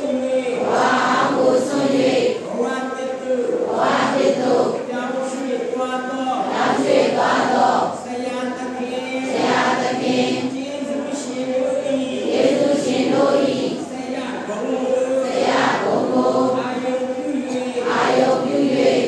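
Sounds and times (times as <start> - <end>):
congregation chanting in unison: 0.0 - 19.0.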